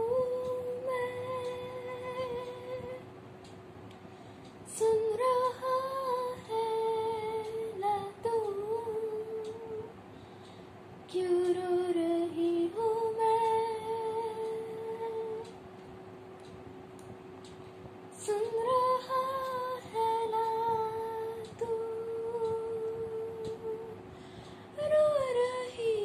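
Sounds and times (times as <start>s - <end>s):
steady held tone: 0.0s - 26.0s.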